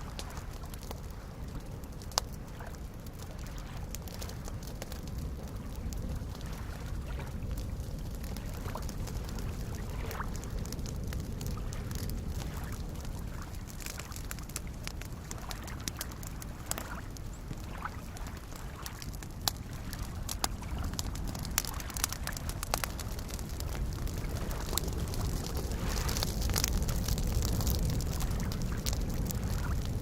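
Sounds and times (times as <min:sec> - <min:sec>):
campfire crackling and popping: 0:00.0 - 0:30.0
lake waves lapping: 0:03.4 - 0:10.7, 0:11.4 - 0:29.7.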